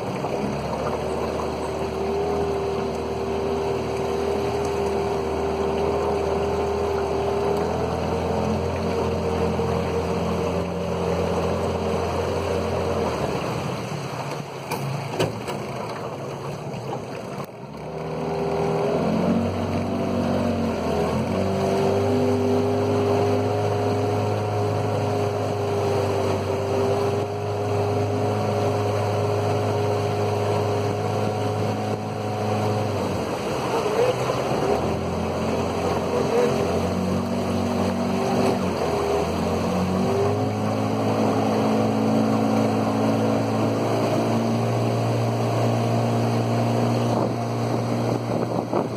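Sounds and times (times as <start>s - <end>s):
outboard motor running: 0.0s - 48.9s.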